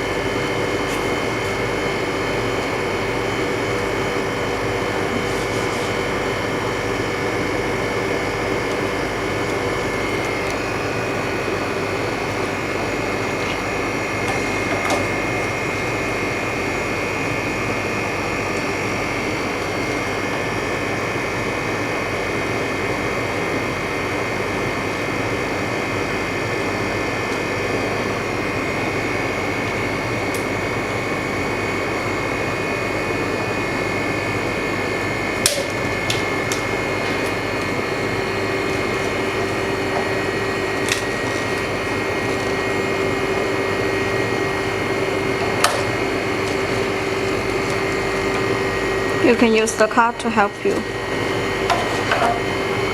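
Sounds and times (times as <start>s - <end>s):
freezer fan whirring: 0.0s - 52.9s
steady high whine: 0.0s - 52.9s.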